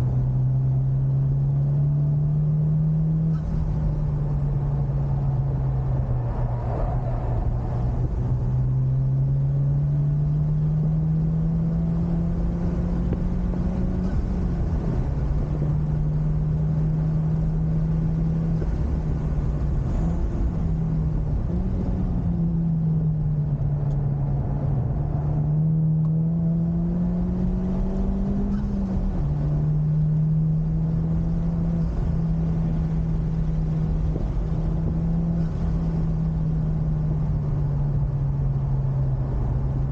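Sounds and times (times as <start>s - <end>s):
car engine under load: 0.0s - 39.9s
road and wind noise: 0.0s - 39.9s.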